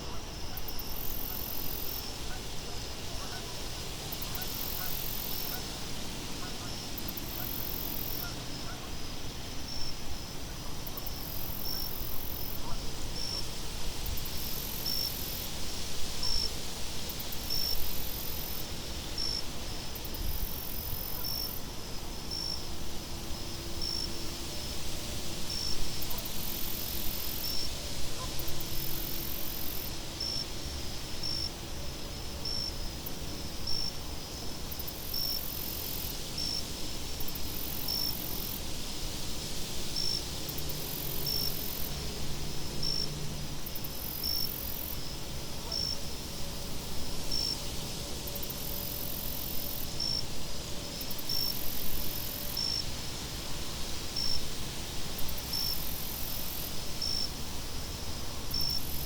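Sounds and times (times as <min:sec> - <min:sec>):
insects chirping: 0:00.0 - 0:15.4, 0:16.2 - 0:59.0.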